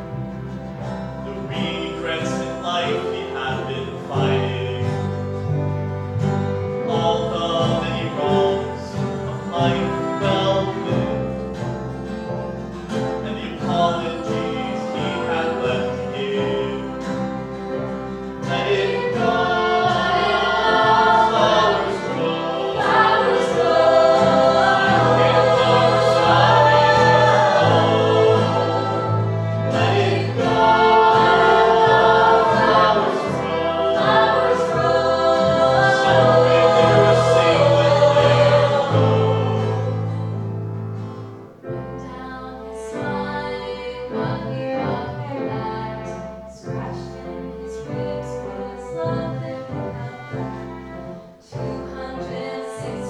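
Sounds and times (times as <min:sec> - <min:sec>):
bass accompaniment: 0:00.0 - 0:53.0
voices singing wordless harmony: 0:00.0 - 0:53.0.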